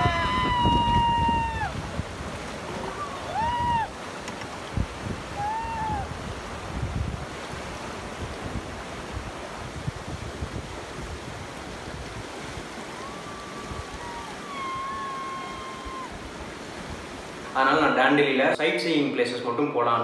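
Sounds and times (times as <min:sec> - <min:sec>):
wind buffeting microphone: 0:00.0 - 0:17.3
river rushing: 0:00.0 - 0:18.5.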